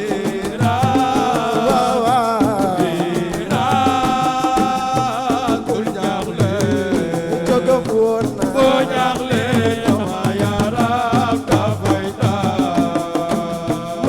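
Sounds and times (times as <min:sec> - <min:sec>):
driving percussion: 0:00.0 - 0:14.0.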